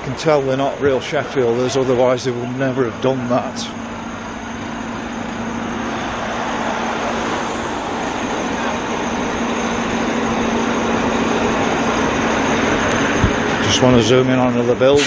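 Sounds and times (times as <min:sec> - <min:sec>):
steady engine hum: 0:00.0 - 0:15.0
vehicles passing: 0:00.0 - 0:15.0.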